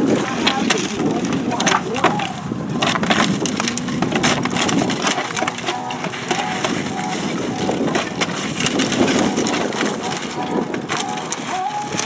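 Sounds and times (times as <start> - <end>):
shingles cracking and clattering: 0.0 - 12.0
shovels scraping roof shingles: 0.0 - 12.0.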